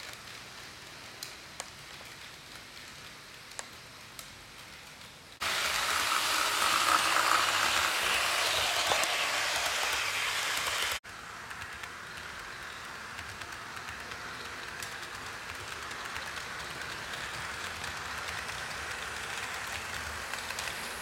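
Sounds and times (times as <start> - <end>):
light clicks of model train: 0.0 - 5.4, 7.7 - 21.0
model train rolling past: 0.0 - 21.0.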